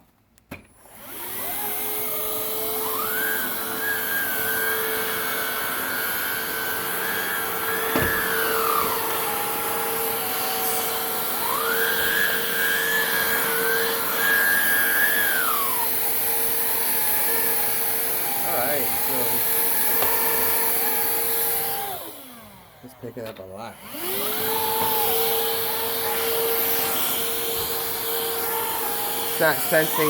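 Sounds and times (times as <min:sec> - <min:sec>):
vacuum cleaner whine: 0:00.5 - 0:30.0
vacuum cleaner humming: 0:00.8 - 0:30.0.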